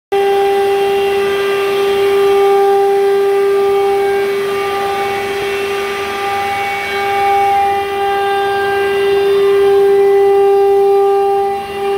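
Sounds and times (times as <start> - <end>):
router spindle high whine: 0.1 - 11.9.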